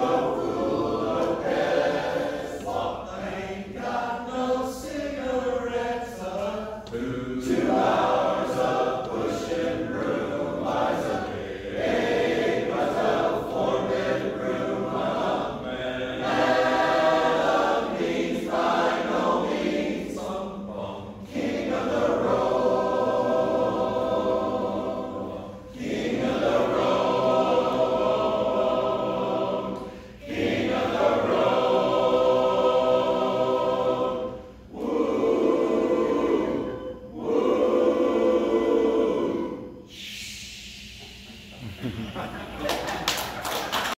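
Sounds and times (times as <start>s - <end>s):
male chorus singing a cappella: 0.0s - 40.9s.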